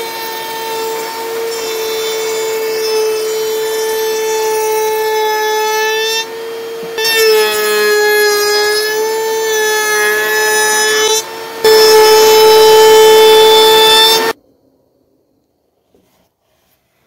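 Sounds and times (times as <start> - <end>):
router whining: 0.0 - 14.4.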